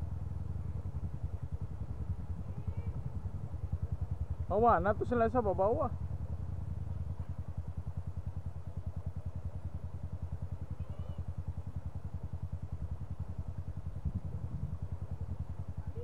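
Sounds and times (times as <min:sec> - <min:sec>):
dirt bike engine idling: 0:00.0 - 0:16.0.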